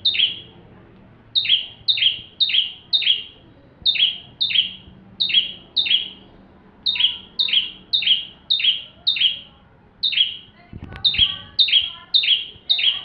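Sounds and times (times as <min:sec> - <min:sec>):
bird calling with sharp chirps: 0:00.0 - 0:00.5, 0:01.4 - 0:13.0.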